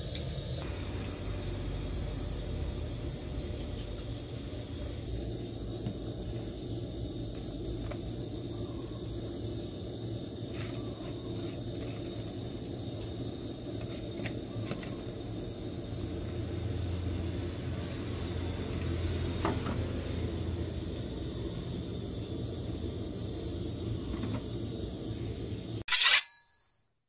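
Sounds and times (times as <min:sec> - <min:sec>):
broth bubbling in a pot: 0:00.0 - 0:25.8.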